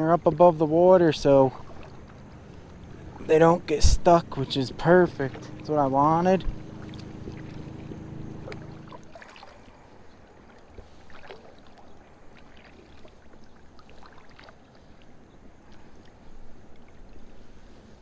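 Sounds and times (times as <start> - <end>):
kayak paddle strokes: 0.0 - 18.0
low steady hum: 0.0 - 18.0
water splashes and drips: 0.1 - 17.6.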